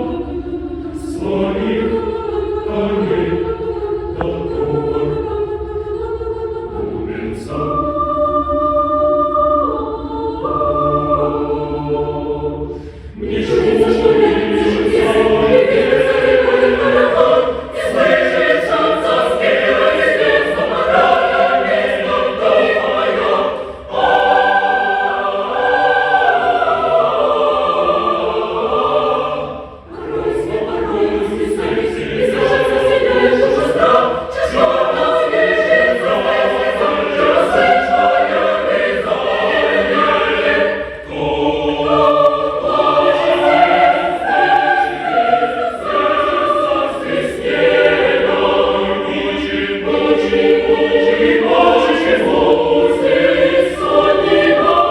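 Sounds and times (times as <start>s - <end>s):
choir singing: 0.0s - 54.9s.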